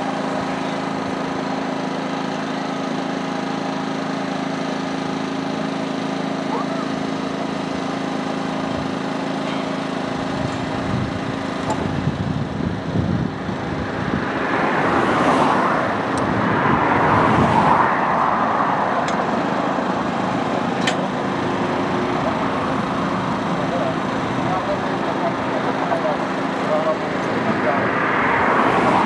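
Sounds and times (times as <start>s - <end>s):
vehicles passing: 0.0s - 29.0s.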